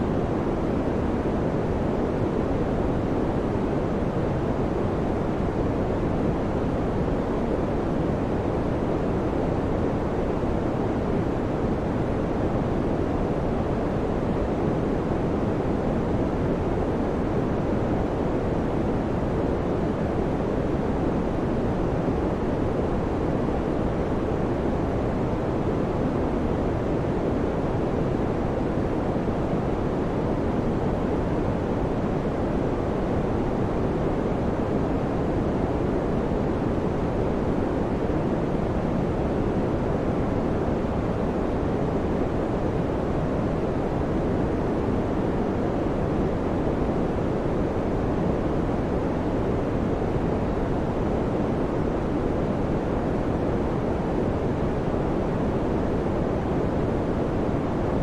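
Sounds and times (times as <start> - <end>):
electric fan rushing air: 0.0 - 58.0.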